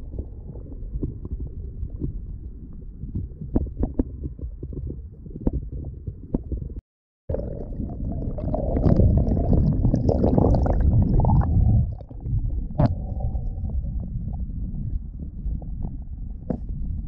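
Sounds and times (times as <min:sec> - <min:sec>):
muffled water rushing past hull: 0:00.0 - 0:17.0.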